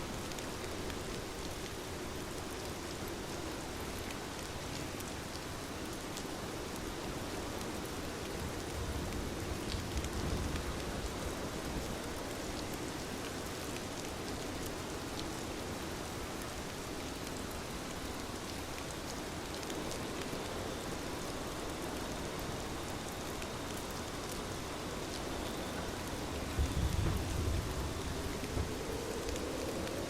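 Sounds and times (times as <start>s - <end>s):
steady rainfall: 0.0s - 30.0s
ticks of raindrops: 0.0s - 30.0s.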